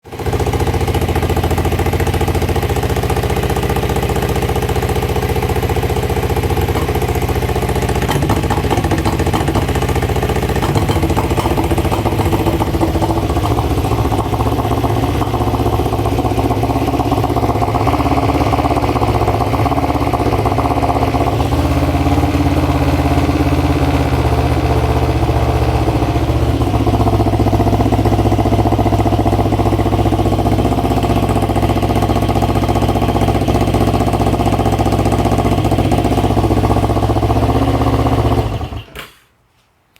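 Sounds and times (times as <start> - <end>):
motorcycle engine idling and misfiring: 0.0 - 39.3.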